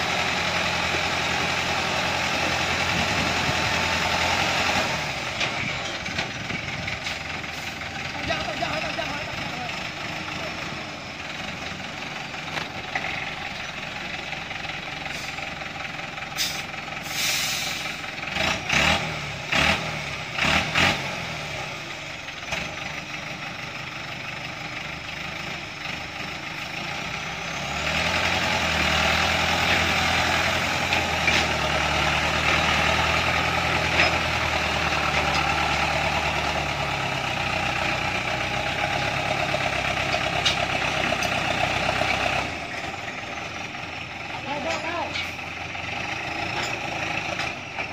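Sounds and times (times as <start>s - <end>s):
truck engine idling and revving: 0.0s - 47.9s.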